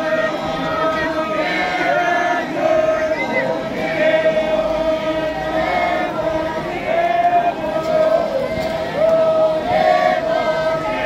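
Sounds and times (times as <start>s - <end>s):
crowd chanting in unison: 0.0s - 11.0s.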